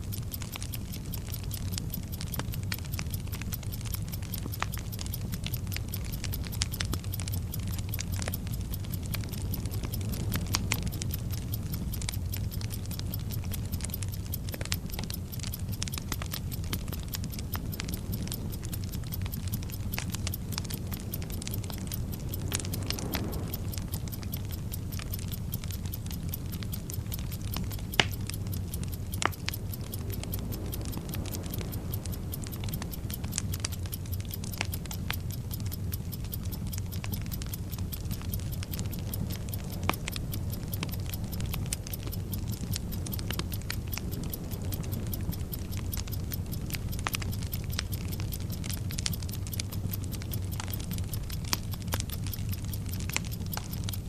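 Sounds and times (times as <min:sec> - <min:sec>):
burning fuse hiss: 0:00.0 - 0:54.0
clock ticking: 0:00.0 - 0:54.0
sharp crackles popping: 0:00.0 - 0:54.0.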